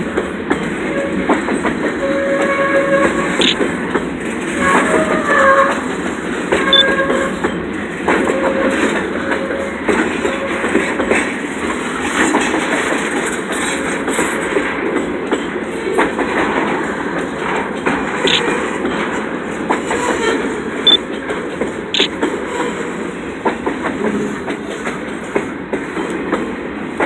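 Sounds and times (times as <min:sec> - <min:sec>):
freight train cars rumbling: 0:00.0 - 0:27.0
wheels clicking over rail joints: 0:00.1 - 0:27.0.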